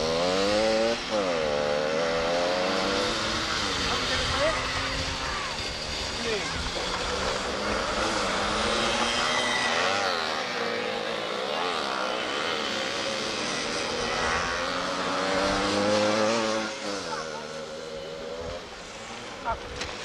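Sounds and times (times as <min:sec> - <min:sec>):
kart engine buzzing: 0:00.0 - 0:20.0.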